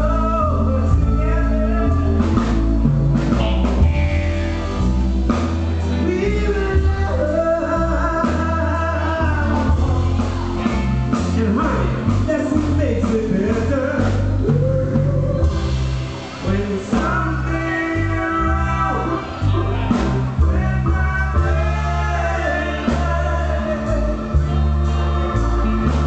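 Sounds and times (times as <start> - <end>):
man singing: 0.0 - 2.8, 3.6 - 4.9, 5.8 - 26.0
drum kit: 0.0 - 26.0
electric guitar: 0.0 - 26.0.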